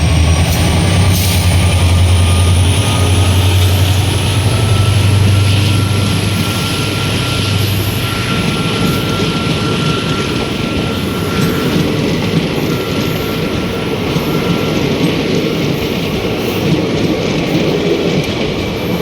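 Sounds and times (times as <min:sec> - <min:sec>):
thin high whine: 0:00.0 - 0:15.4
diesel locomotive engine humming: 0:00.0 - 0:19.0.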